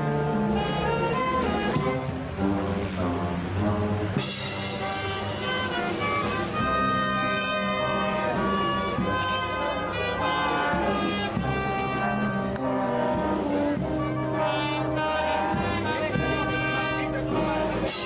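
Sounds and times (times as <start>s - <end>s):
brass band playing march: 0.0s - 18.0s.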